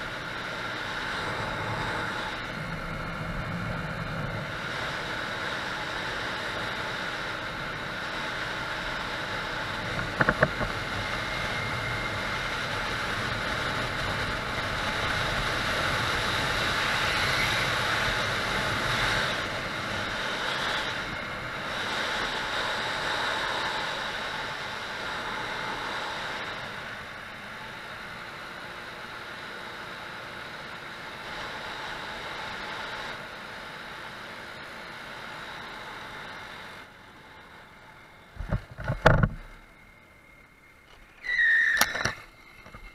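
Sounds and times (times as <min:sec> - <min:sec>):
scooter engine running: 0:00.0 - 0:39.4.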